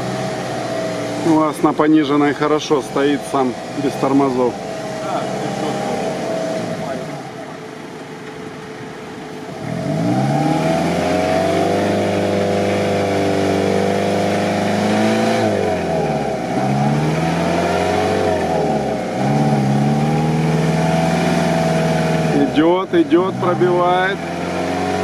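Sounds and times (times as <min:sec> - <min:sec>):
truck engine revving hard: 0:00.0 - 0:07.4, 0:09.4 - 0:25.0.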